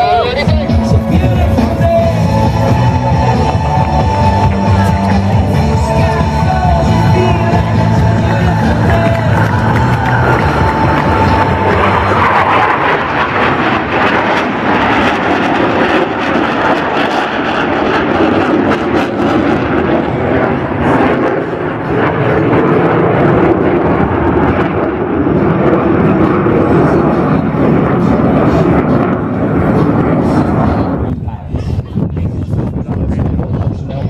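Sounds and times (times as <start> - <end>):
jets flying past: 0.0 - 32.0.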